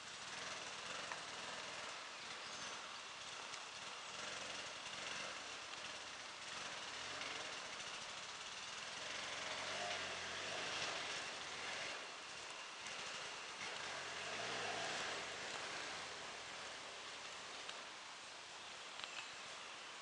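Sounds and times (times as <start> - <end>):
background hiss: 0.0 - 20.0
distant motorcycle engine running: 0.0 - 20.0.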